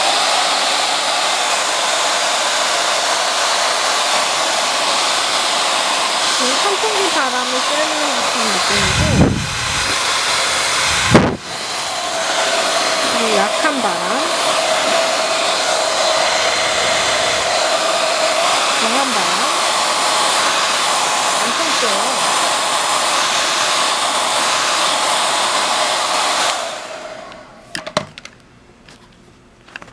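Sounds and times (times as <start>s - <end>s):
hair dryer blowing: 0.0s - 27.6s.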